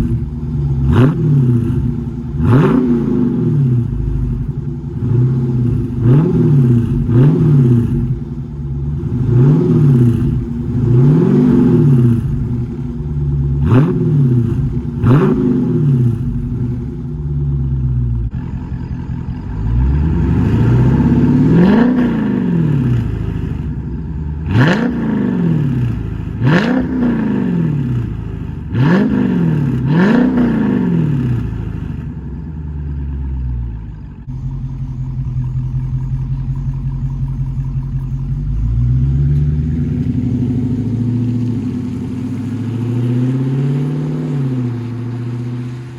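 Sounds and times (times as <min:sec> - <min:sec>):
car exhaust revving: 0:00.0 - 0:45.9
exhaust cracks: 0:00.0 - 0:45.9.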